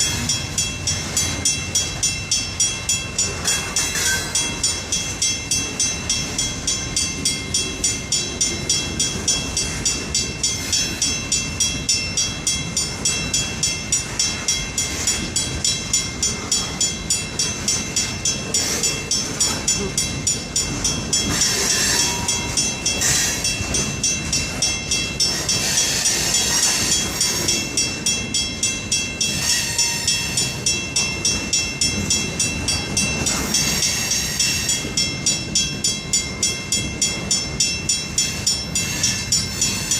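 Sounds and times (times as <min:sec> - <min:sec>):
wheels clicking over rail joints: 0:00.0 - 0:39.9.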